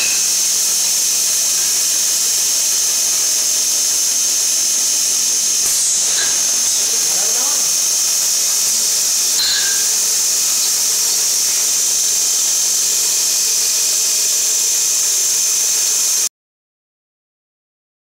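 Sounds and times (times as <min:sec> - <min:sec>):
bottle-filling machine hissing: 0:00.0 - 0:16.3.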